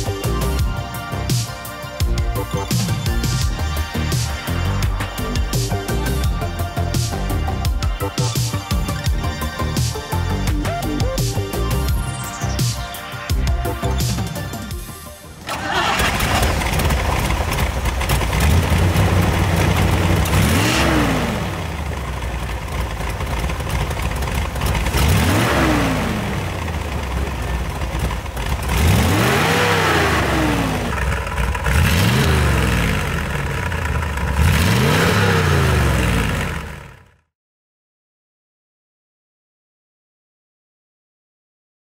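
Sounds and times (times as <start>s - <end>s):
car engine idling and revving: 0.0s - 37.3s.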